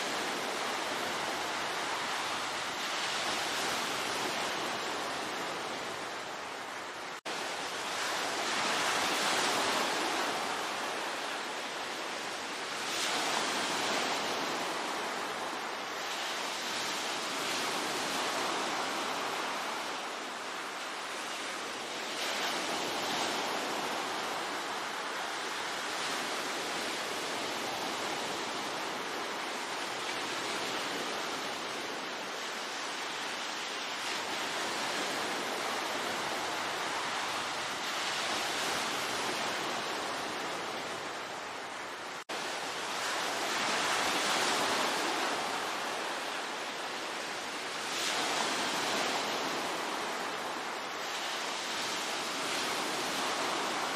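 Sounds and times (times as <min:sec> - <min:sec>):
sea waves breaking: 0:00.0 - 0:53.9.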